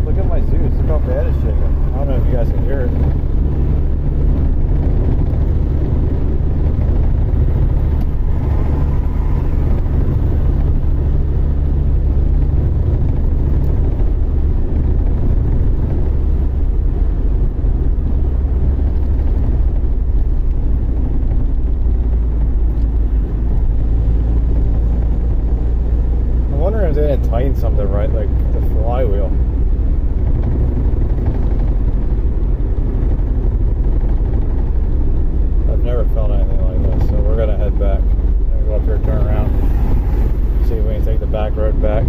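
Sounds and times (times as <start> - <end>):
car engine and road rumble: 0.0 - 42.0
car vibrating heavily: 0.0 - 42.0.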